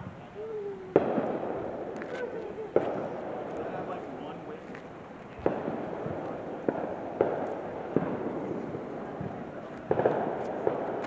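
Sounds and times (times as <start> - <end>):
fireworks banging: 0.9 - 11.0.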